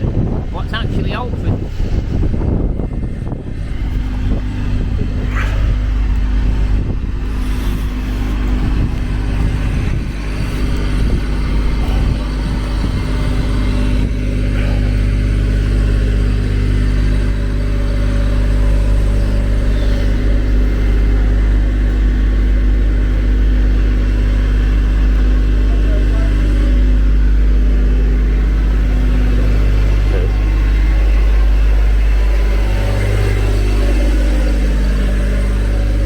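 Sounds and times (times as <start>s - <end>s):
truck engine humming: 0.0s - 36.0s.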